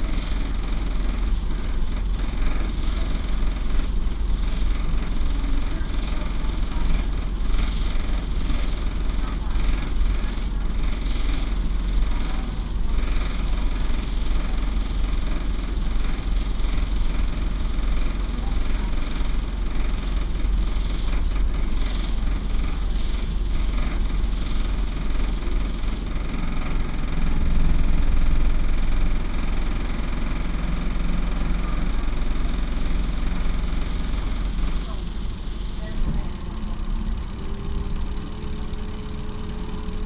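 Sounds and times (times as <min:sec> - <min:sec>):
bus diesel engine drone: 0:00.0 - 0:40.0.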